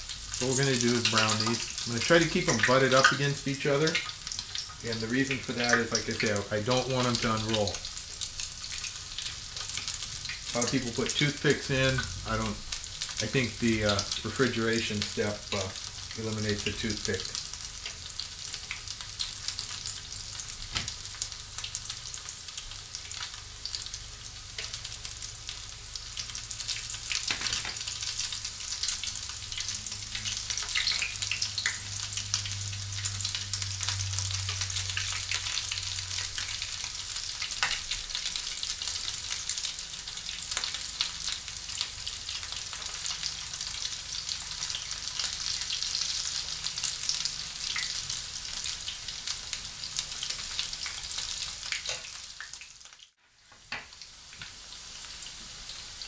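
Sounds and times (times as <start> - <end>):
food sizzling in oil: 0.0 - 56.0
oil popping and crackling: 0.0 - 56.0.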